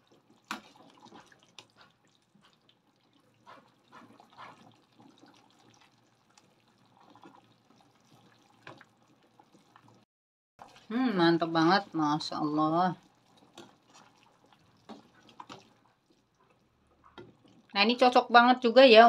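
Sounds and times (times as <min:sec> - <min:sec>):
ladle splashing broth: 0:00.0 - 0:10.0, 0:10.6 - 0:17.7
pot of broth bubbling: 0:00.0 - 0:18.3.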